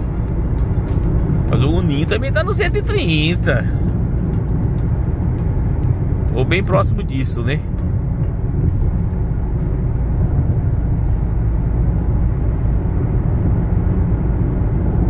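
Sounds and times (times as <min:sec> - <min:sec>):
tyre and wind noise in car: 0:00.0 - 0:15.0.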